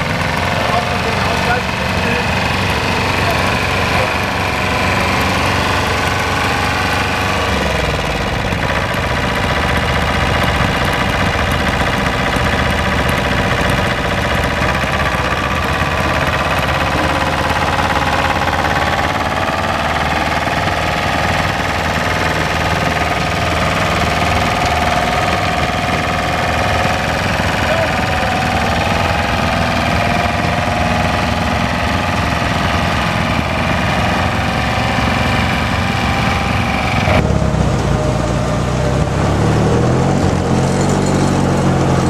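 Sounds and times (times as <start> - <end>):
rotary tiller churning soil: 0.0 - 42.0
walking tractor engine running: 0.0 - 42.0.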